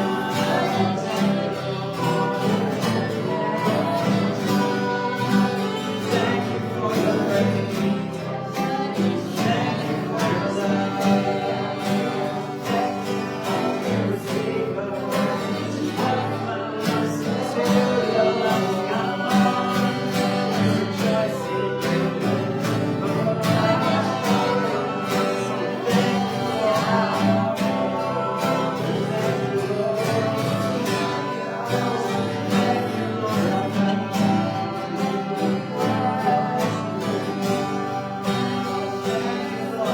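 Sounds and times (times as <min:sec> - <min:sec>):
guitar accompaniment: 0:00.0 - 0:39.9
people singing worship song: 0:00.0 - 0:39.9.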